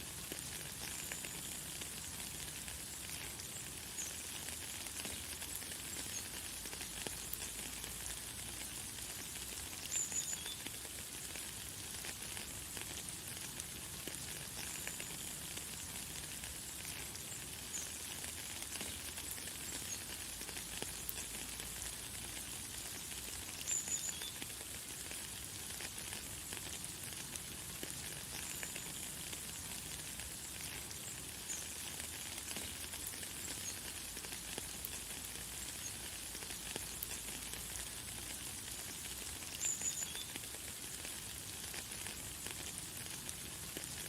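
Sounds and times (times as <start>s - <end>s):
light rain pattering: 0.0s - 44.0s.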